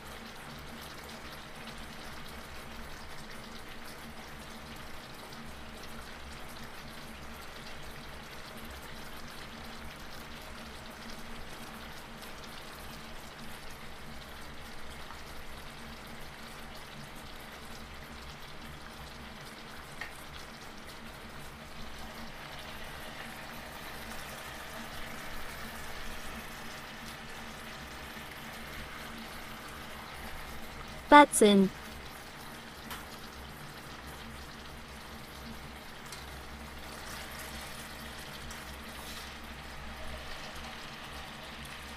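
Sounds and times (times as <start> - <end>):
chicken sizzling and bubbling: 0.0 - 41.9.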